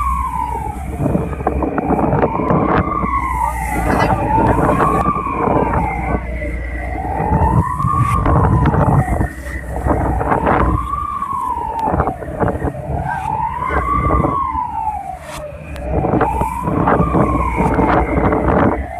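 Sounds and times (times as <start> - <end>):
rough sea: 0.0 - 18.9
wailing siren: 0.0 - 18.9
wind rumble: 0.0 - 18.9.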